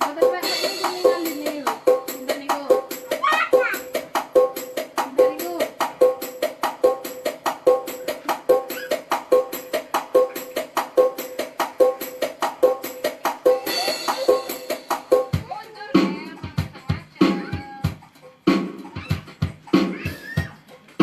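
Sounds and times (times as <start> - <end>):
heavy drum hits: 0.0 - 20.1
wood-block-like strikes: 0.0 - 20.5
electronic keyboard rhythm: 0.0 - 21.0.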